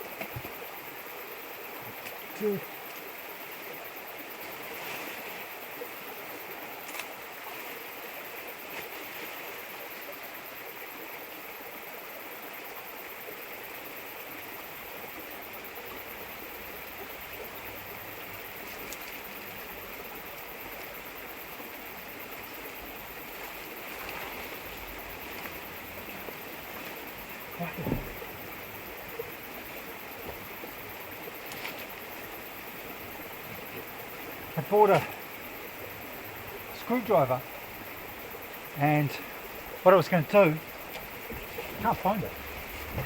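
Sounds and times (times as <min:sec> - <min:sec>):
running water rushing: 0:00.0 - 0:43.0.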